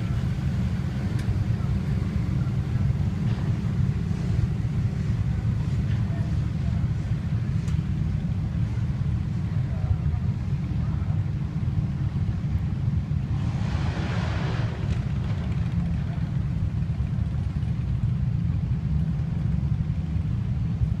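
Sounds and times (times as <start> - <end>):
pickup truck engine rumbling: 0.0 - 21.0.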